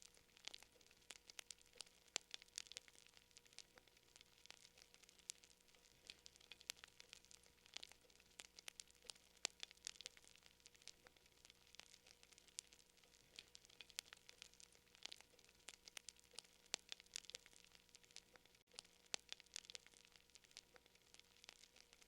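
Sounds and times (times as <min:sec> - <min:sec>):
faint hiss: 0:00.0 - 0:22.0
fire crackling: 0:00.0 - 0:22.0.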